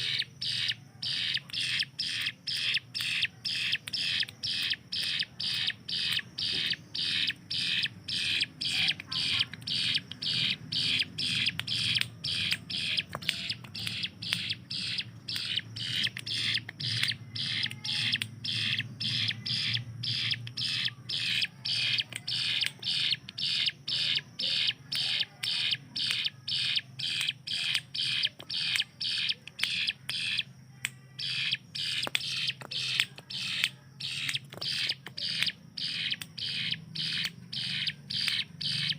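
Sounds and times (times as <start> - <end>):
bird calling sharp high notes: 0.0 - 30.5, 31.2 - 38.9.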